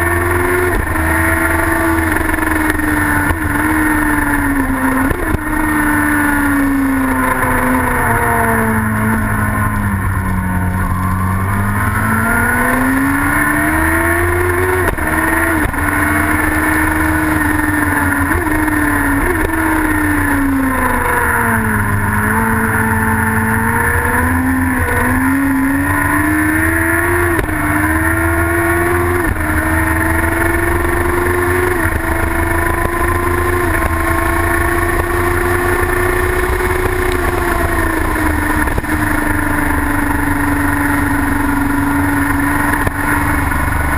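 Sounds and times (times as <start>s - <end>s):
racing engine accelerating: 0.0s - 43.9s.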